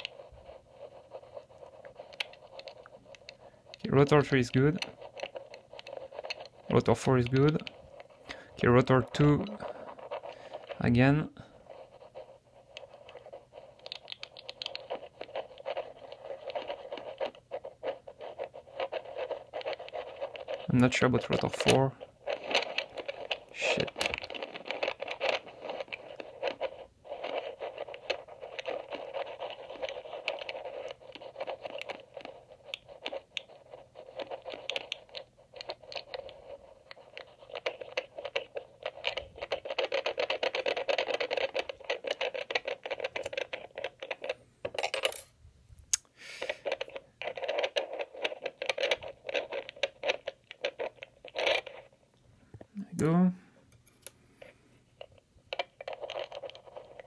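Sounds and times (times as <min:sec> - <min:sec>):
lock pick scratching and ticking: 0:00.0 - 0:45.2, 0:46.6 - 0:51.9, 0:55.0 - 0:57.0.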